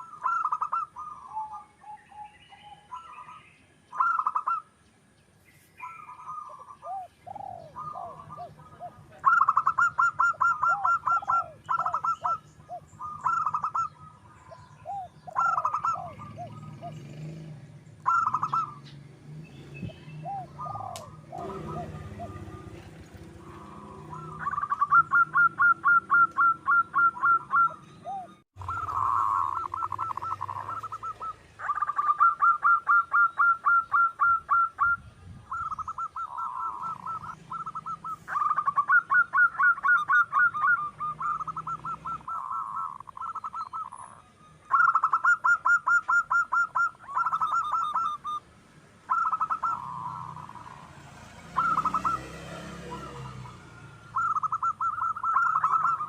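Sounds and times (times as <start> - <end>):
dove cooing: 0.0 - 4.8, 5.8 - 19.0, 19.8 - 48.4, 49.1 - 56.0.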